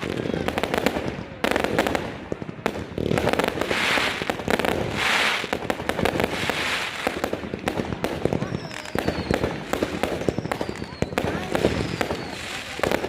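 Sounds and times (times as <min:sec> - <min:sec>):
fireworks crackling pops: 0:00.0 - 0:13.0
fireworks hiss: 0:00.0 - 0:13.0.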